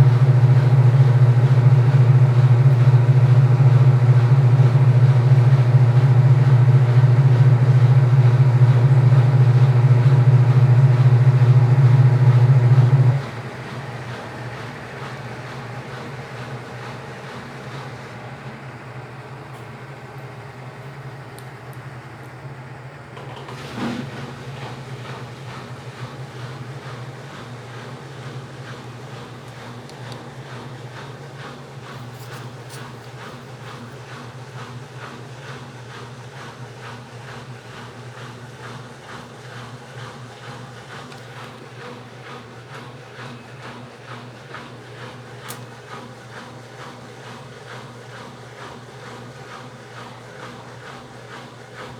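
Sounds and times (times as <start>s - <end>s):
washing machine hum and churning: 0.0s - 51.9s.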